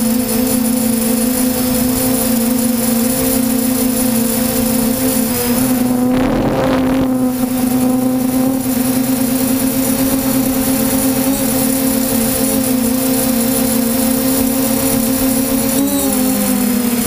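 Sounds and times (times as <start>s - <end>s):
drone motors and propellers: 0.0s - 17.0s.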